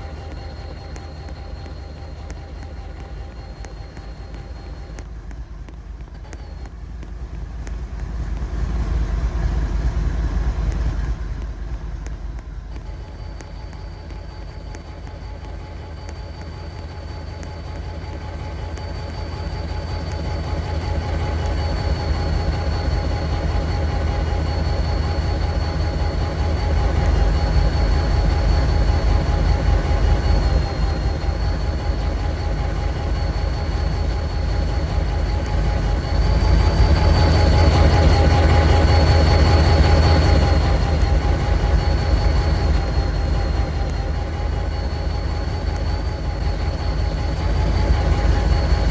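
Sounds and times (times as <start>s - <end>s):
high-pitched whine: 0.0s - 48.9s.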